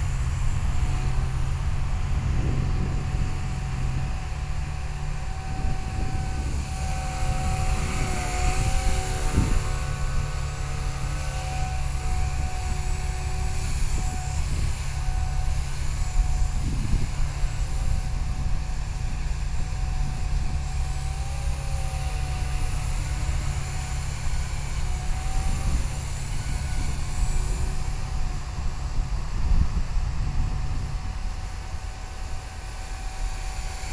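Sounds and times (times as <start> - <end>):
rc helicopter motor whine: 0.0 - 33.9
steady low rumble: 0.0 - 33.9.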